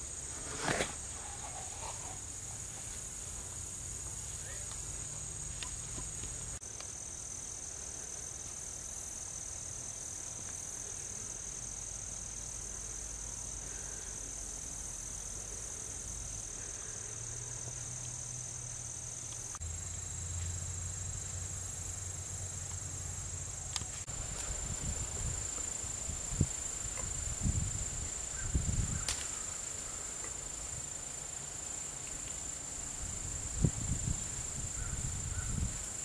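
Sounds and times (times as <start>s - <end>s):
crickets droning: 0.0s - 36.0s.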